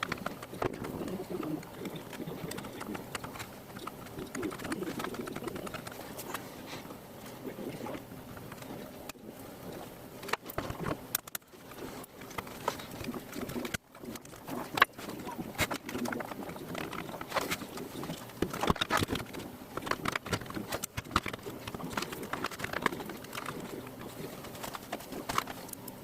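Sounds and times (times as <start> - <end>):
plastic and metal parts clicking: 0.0 - 6.4, 10.2 - 26.0.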